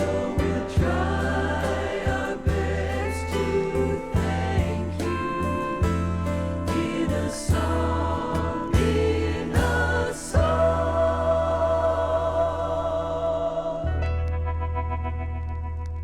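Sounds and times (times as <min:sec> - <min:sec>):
gospel choir singing with band: 0:00.0 - 0:14.4.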